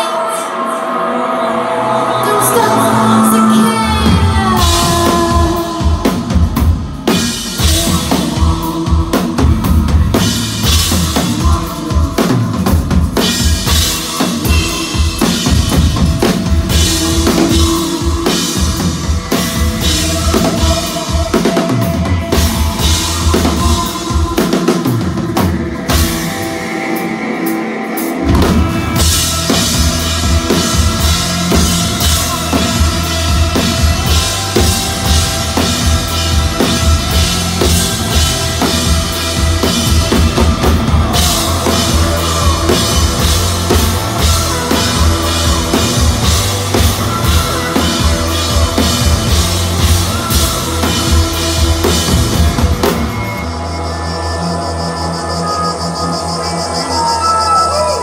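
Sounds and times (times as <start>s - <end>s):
live rock band playing: 0.0s - 58.0s
drum kit: 2.3s - 54.7s.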